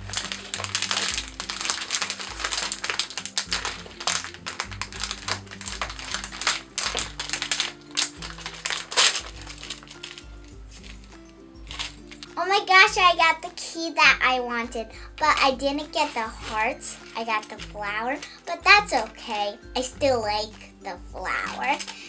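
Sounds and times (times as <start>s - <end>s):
background music with bass: 0.0s - 13.4s, 14.1s - 21.6s
plastic package crinkling: 0.0s - 22.0s.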